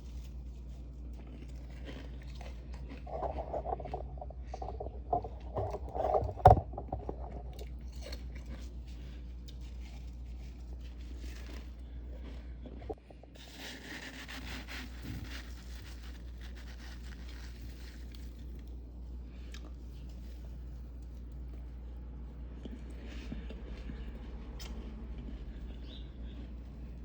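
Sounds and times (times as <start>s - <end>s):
frost crunching: 0.0s - 21.9s.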